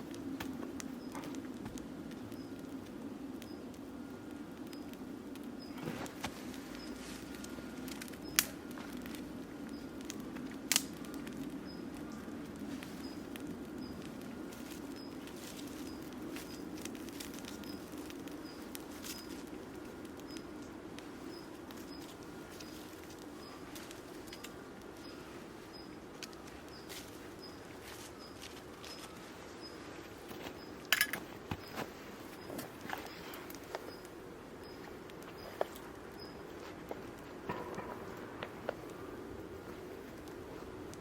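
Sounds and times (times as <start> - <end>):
sharp pops of fire: 0.0 - 41.0
wood fire crackling: 0.0 - 41.0.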